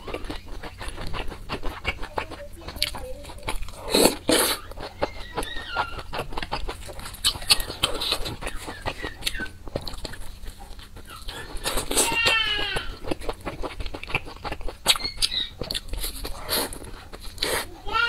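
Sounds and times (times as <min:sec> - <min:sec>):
wet chewing smacks: 0:00.0 - 0:17.7.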